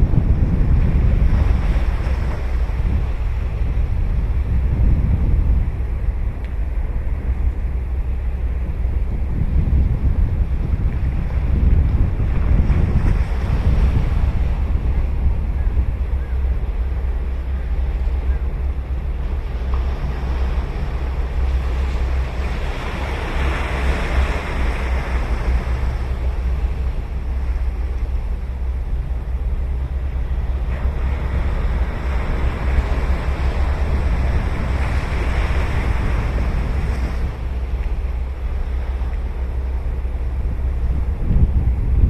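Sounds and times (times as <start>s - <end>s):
ocean waves breaking on beach: 0.0s - 42.0s
wind rumble on microphone: 0.0s - 42.0s.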